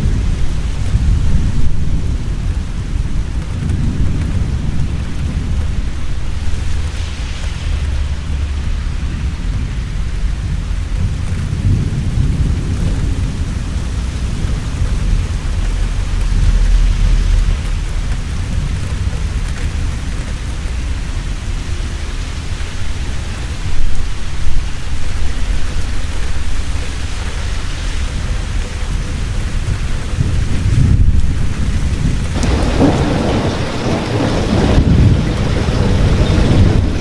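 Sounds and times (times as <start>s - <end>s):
heavy rain: 0.0s - 37.0s
thunder rumbling: 0.0s - 37.0s.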